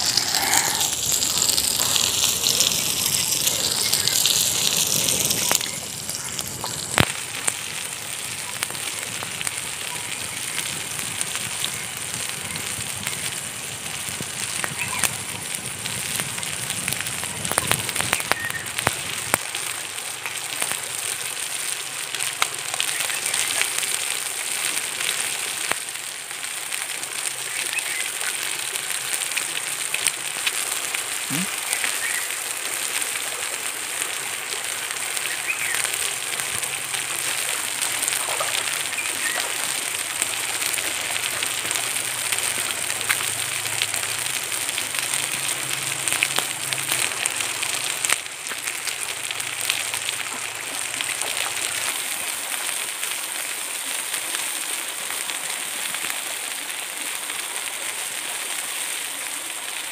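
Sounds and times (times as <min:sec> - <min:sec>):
wood fire crackling: 0:00.0 - 0:53.6
food sizzling on hot stone: 0:00.0 - 0:58.5.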